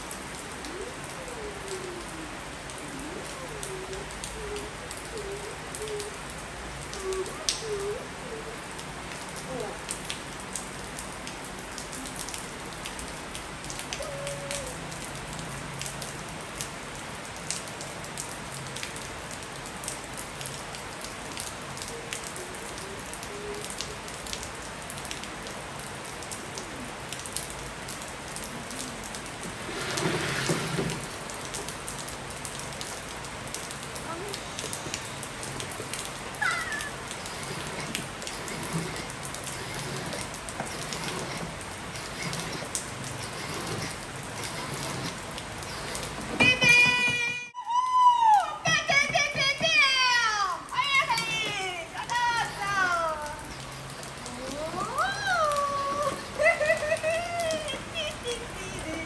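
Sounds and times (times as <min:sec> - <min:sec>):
rain falling on wet tiles: 0:00.0 - 0:59.0
raindrop ticks: 0:00.0 - 0:59.0.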